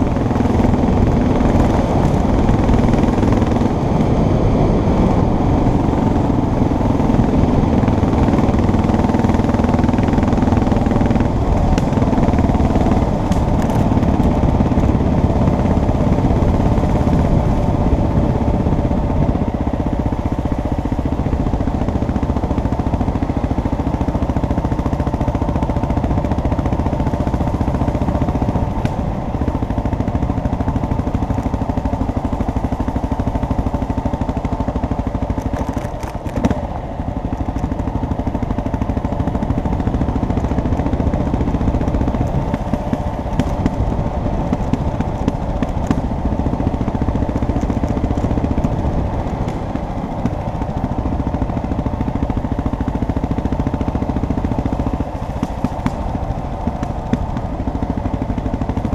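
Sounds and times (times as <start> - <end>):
rumbling road noise: 0.0 - 58.9
vehicle engine hum: 0.0 - 58.9.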